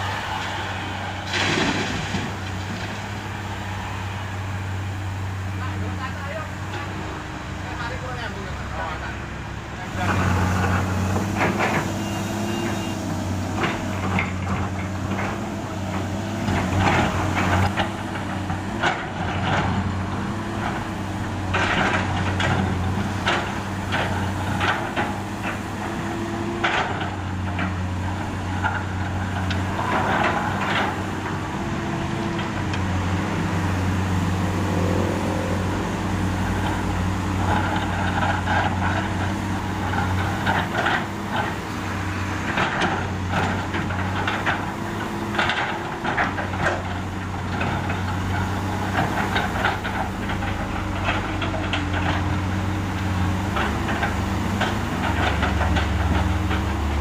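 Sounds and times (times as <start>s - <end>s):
excavator diesel engine running: 0.0s - 57.0s
clanks and scrapes of digging asphalt: 1.2s - 3.2s, 9.8s - 33.1s, 34.4s - 57.0s.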